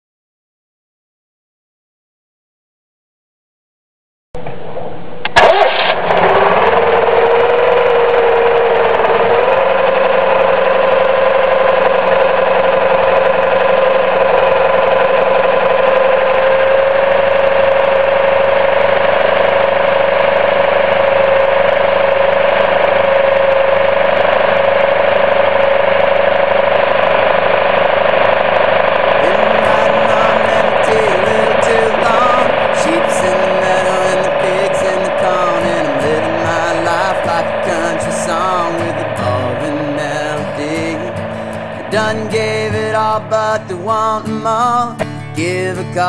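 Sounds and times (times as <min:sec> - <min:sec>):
car engine starting and running: 0:04.4 - 0:46.0.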